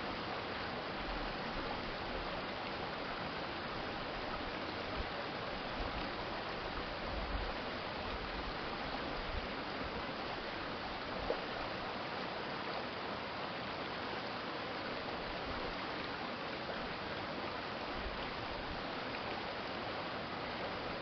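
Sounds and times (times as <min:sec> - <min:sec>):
stream flowing: 0:00.0 - 0:21.0.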